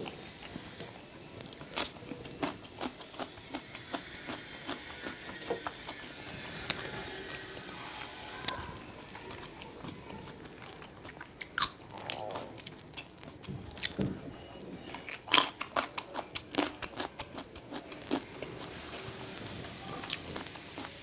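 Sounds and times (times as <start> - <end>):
person crunching food: 1.4 - 21.0.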